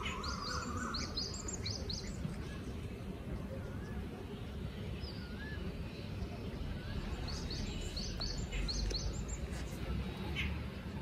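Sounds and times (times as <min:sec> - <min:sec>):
birds calling: 0:00.0 - 0:10.8.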